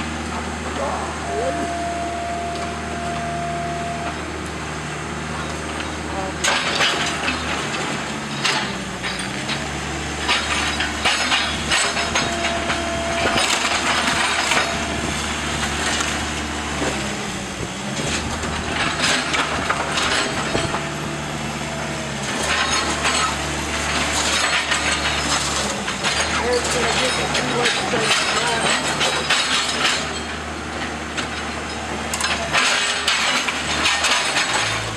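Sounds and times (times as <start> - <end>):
steady engine drone: 0.0 - 34.9.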